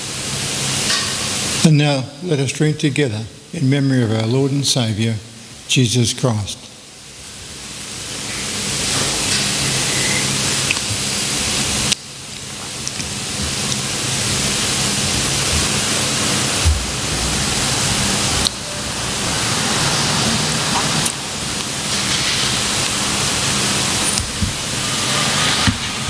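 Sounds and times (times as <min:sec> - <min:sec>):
recording hiss: 0:00.0 - 0:26.0.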